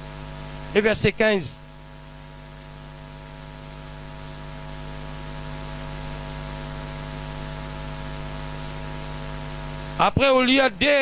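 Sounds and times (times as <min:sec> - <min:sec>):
electrical mains hum: 0:00.0 - 0:11.0
microphone hiss: 0:00.0 - 0:11.0.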